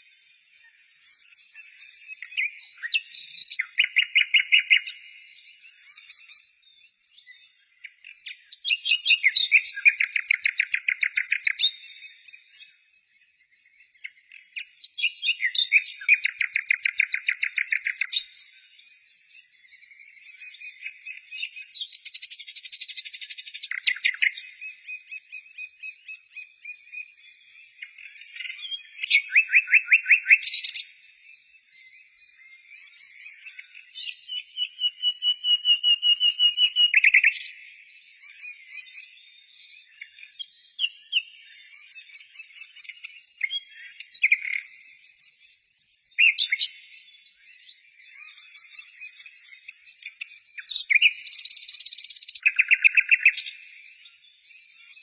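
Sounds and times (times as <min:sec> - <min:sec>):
bird trilling chirps: 0:01.4 - 0:12.8, 0:14.0 - 0:18.8, 0:19.8 - 0:55.0.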